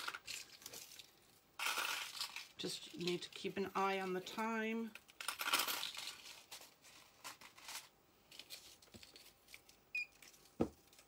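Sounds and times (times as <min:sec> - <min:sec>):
rustling handling noise: 0:00.0 - 0:04.3, 0:04.9 - 0:11.0.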